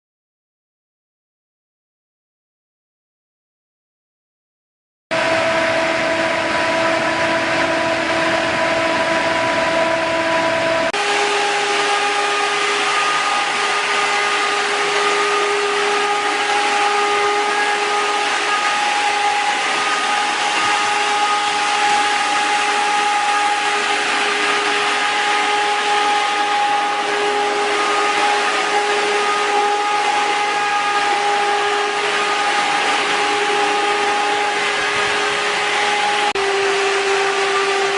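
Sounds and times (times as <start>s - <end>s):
fan blowing strong wind: 5.1s - 37.9s
fan whine: 5.1s - 37.9s.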